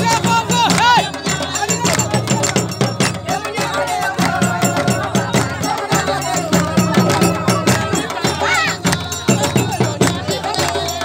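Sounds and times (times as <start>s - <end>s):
fast dense percussion: 0.0s - 11.0s.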